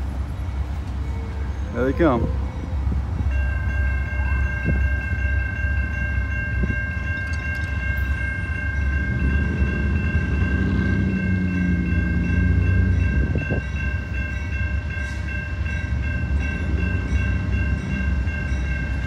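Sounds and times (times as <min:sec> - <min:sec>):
approaching train: 0:00.0 - 0:19.0
railroad crossing bell ringing: 0:00.0 - 0:19.0.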